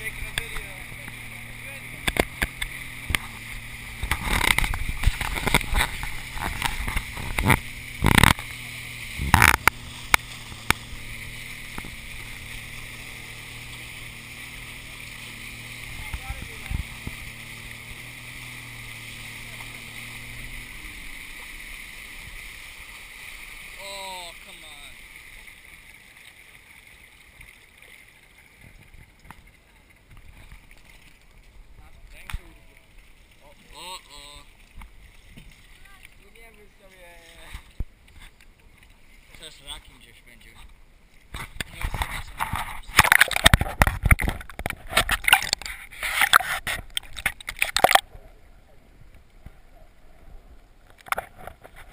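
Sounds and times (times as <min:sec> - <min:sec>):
low steady hum: 0:00.0 - 0:51.9
rushing water: 0:00.0 - 0:51.9.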